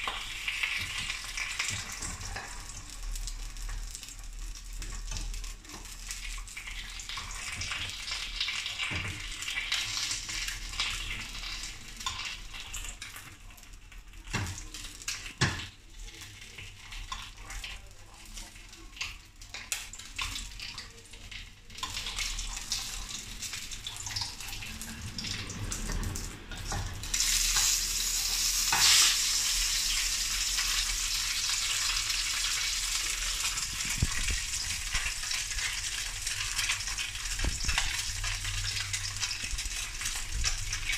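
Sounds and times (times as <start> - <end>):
fish sizzling in hot oil: 0.0 - 40.9.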